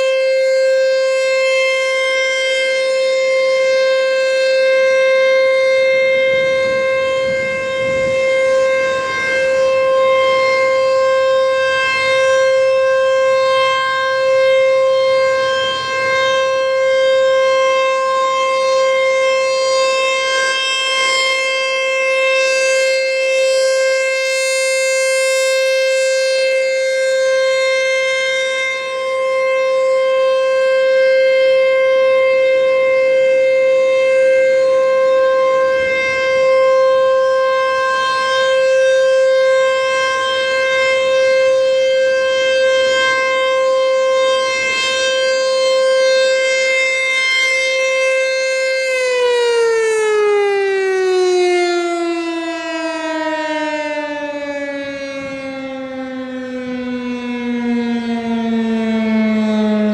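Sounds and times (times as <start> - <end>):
rotating warning siren: 0.0 - 59.9.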